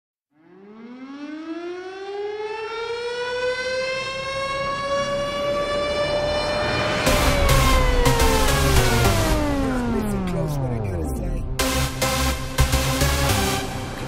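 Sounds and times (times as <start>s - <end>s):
siren-like rising wail: 0.4s - 14.0s.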